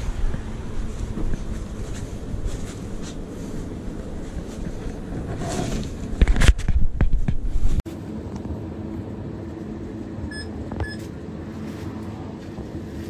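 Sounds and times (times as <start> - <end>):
shop hum: 0.0 - 13.0.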